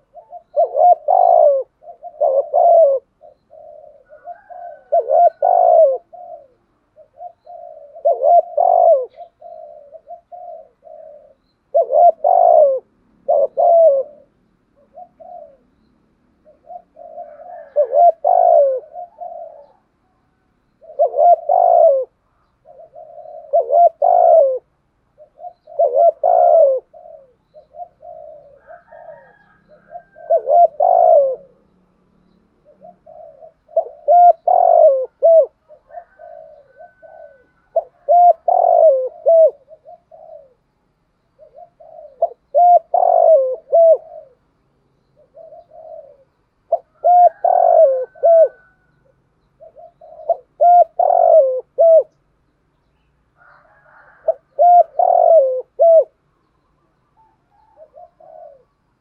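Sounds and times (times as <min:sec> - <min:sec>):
dove cooing: 0:00.0 - 0:52.3, 0:53.4 - 0:59.0.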